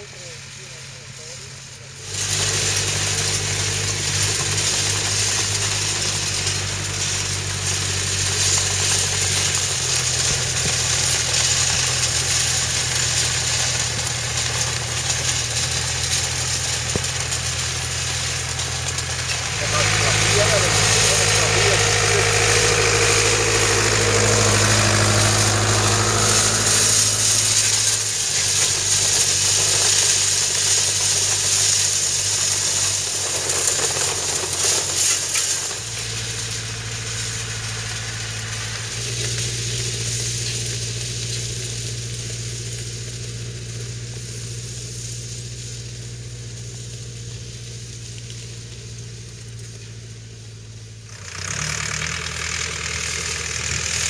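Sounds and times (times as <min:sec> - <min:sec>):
tractor engine running: 0:00.0 - 0:54.0
hay rake rattling through hay: 0:02.0 - 0:49.0, 0:51.1 - 0:54.0.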